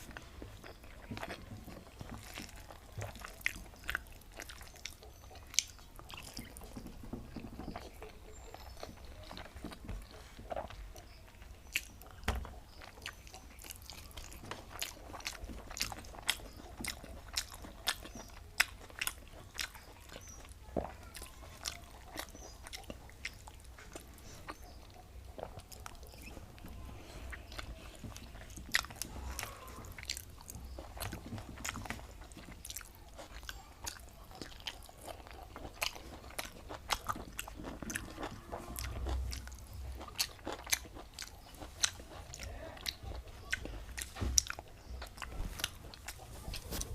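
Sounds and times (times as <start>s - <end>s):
person chewing and smacking: 0.0s - 46.9s.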